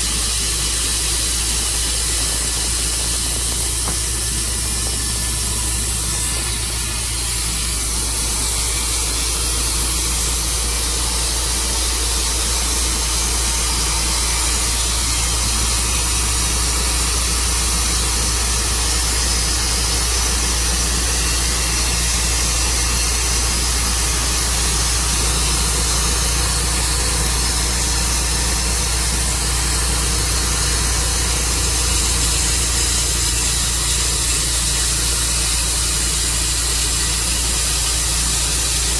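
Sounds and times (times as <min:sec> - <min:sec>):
even hiss: 0:00.0 - 0:38.9
sawmill engine running: 0:00.0 - 0:38.9.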